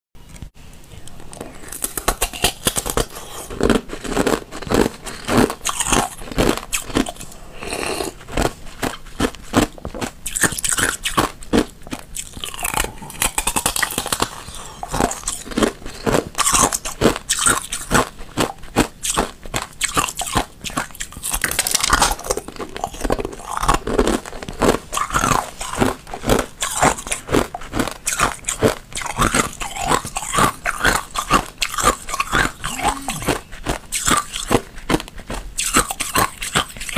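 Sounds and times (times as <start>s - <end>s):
ice being chewed crunching: 0.9s - 36.9s.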